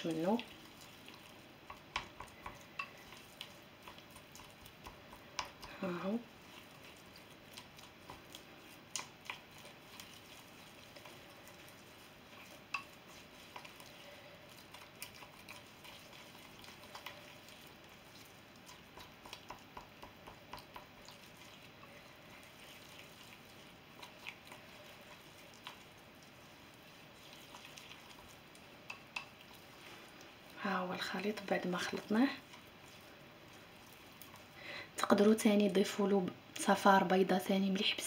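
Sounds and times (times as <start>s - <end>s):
spoon stirring in metal bowl: 0.0s - 34.6s.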